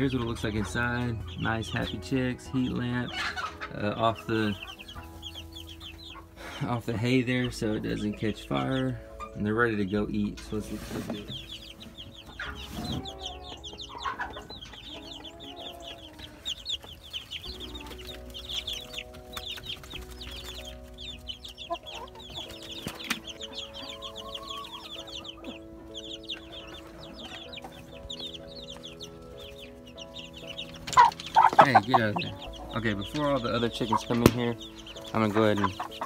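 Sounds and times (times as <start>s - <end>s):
chicks peeping: 0.0s - 36.0s.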